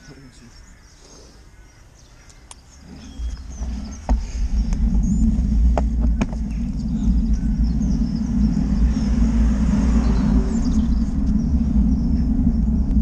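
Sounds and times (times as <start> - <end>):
wind buffeting microphone: 1.8 - 13.0.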